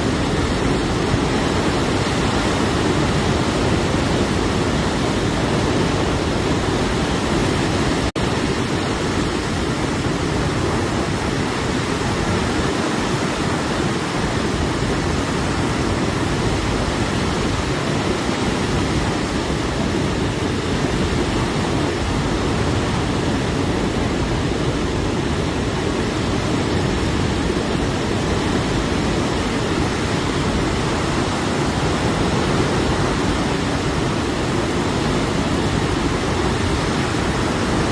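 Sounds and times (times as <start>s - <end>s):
rushing flowing water: 0.0s - 37.9s.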